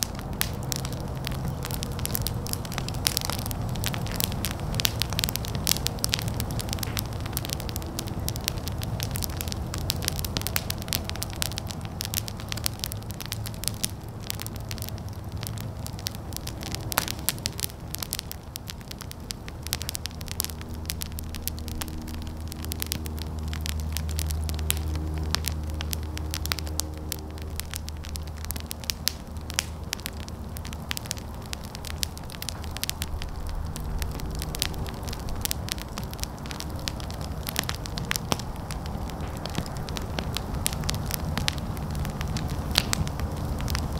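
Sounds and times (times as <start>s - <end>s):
fire crackling and popping: 0.0s - 43.9s
low steady rumble: 0.0s - 43.9s.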